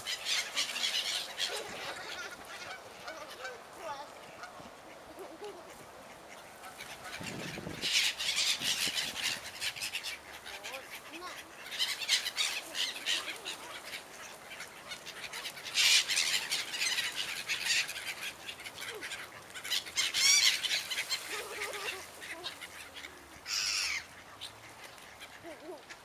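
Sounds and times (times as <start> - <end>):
gulls squawking: 0.0 - 26.0.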